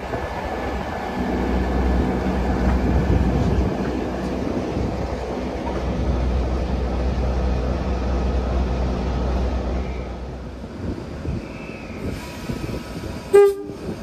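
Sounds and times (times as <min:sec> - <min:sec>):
locomotive rumbling: 0:00.0 - 0:14.0.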